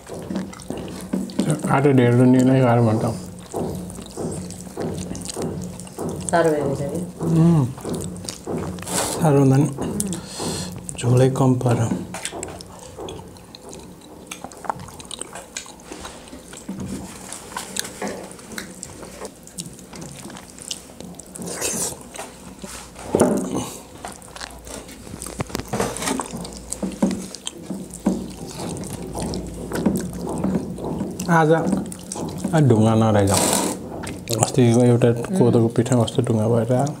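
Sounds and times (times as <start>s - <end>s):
wet chewing and lip-smacking: 0.0s - 37.0s.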